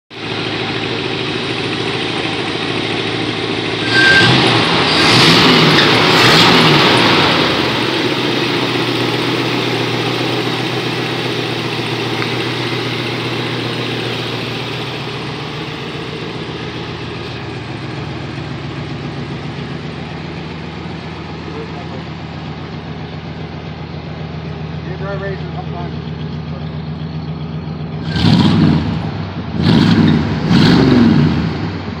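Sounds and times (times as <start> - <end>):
car engine idling and revving: 0.1 - 32.0.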